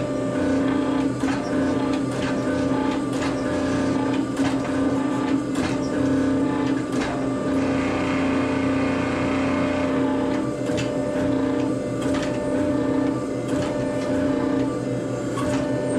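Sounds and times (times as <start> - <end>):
forge blower humming: 0.0 - 15.9.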